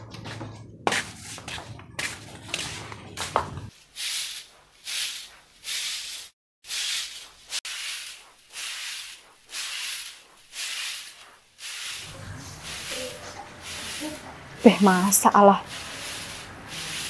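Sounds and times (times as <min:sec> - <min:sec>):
broom sweeping: 0:00.9 - 0:17.0.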